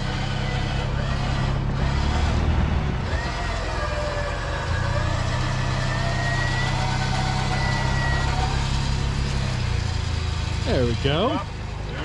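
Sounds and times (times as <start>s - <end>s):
truck engine low drone: 0.0s - 12.0s.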